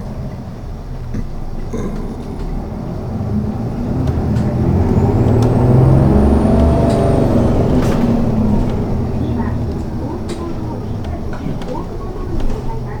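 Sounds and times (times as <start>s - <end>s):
bus engine from inside: 0.0s - 13.0s.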